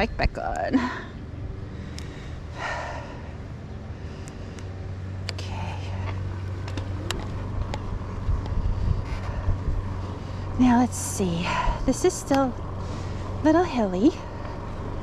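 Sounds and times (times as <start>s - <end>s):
road and wind noise: 0.0s - 15.0s
electric bike motor hum: 0.8s - 15.0s.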